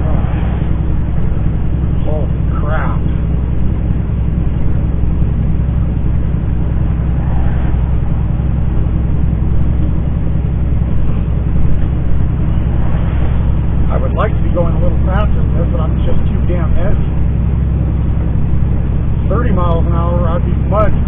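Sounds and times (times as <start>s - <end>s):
truck diesel engine droning: 0.0s - 21.0s.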